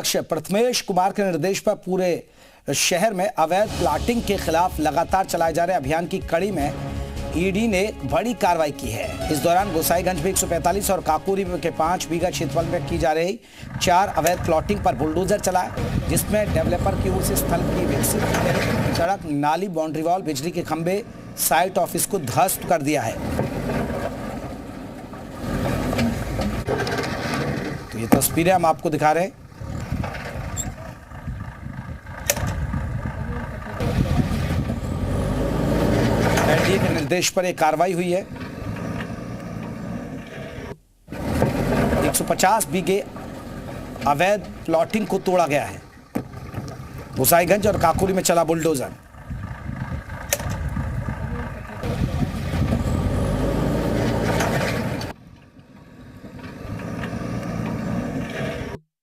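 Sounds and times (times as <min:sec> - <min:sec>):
bulldozer engine rumbling: 0:03.4 - 0:58.8.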